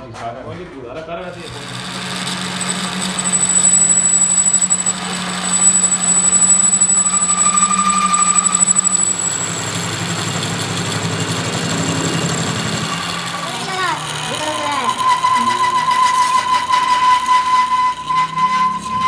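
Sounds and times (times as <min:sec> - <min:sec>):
lathe drive hum: 0:01.3 - 0:19.0
metal lathe cutting steel: 0:01.3 - 0:19.0
thin high whine: 0:01.4 - 0:19.0.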